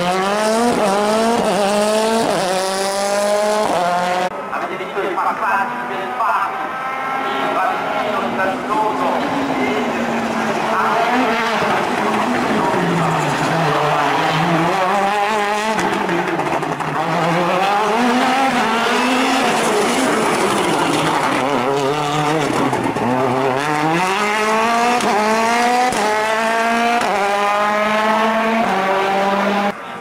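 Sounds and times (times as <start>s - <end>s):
rally car engine revving: 0.0s - 4.3s, 5.6s - 30.0s.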